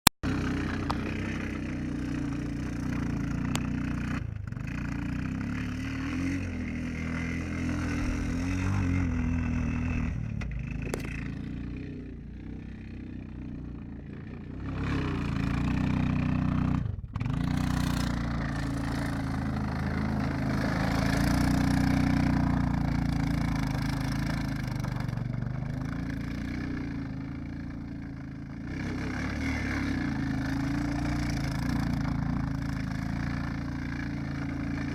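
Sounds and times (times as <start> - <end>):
atv engine revving: 0.2 - 34.9.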